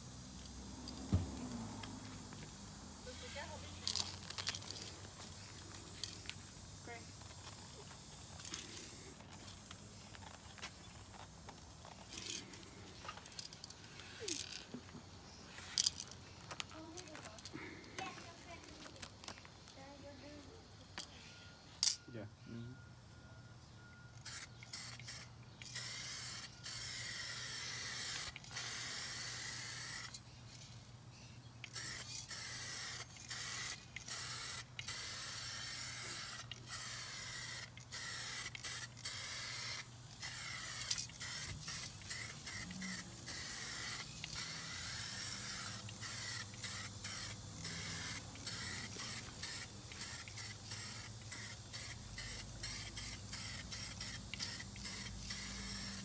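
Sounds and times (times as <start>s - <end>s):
spray paint hissing: 0.0s - 21.2s, 24.2s - 56.0s.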